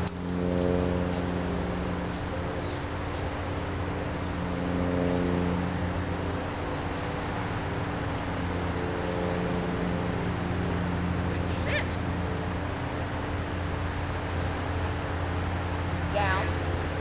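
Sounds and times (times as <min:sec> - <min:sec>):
insects chirping: 0:00.0 - 0:17.0
low even hum: 0:00.0 - 0:17.0.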